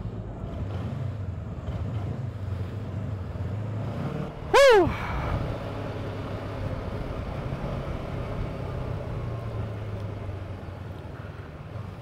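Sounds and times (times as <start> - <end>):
motorcycle engine humming: 0.0 - 12.0
road noise: 0.0 - 12.0.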